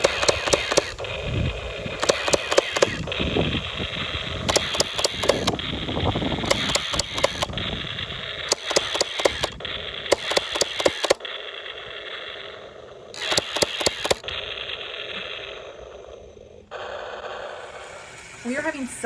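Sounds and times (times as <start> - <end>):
rapid clicking bursts: 0.0 - 18.8
tinny toy engine rumble: 0.0 - 19.0.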